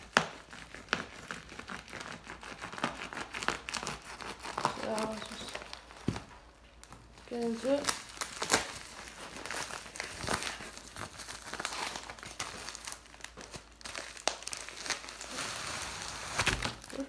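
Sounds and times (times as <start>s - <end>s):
plastic bubble mailer crinkling: 0.0s - 17.0s.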